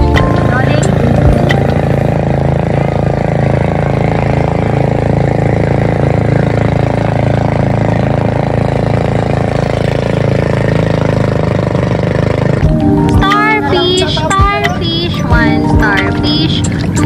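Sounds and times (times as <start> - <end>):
boat engine running: 0.0 - 17.0
water noise: 0.0 - 17.0.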